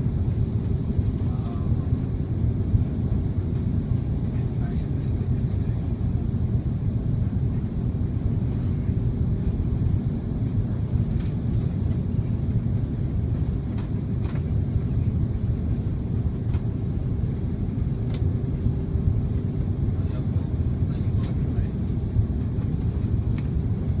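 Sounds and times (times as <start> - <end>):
airliner cabin engine rumble: 0.0 - 24.0
steady hum: 0.0 - 24.0.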